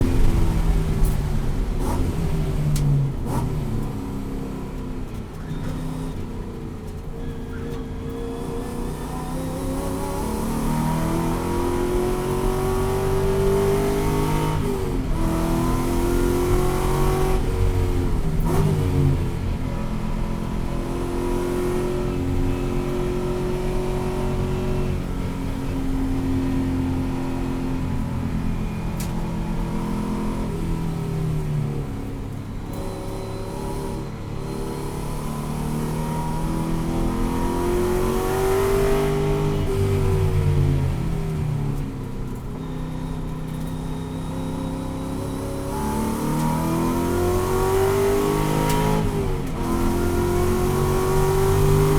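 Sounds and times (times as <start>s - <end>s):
race car engine revving: 8.4s - 42.5s, 44.3s - 51.9s.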